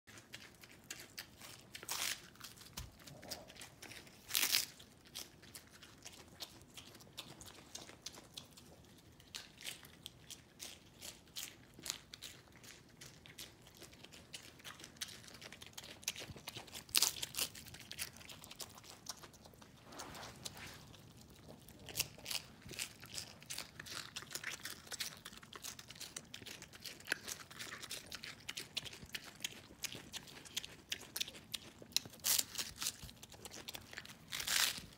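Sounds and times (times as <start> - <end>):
pig crunching lettuce: 0.1 - 34.9.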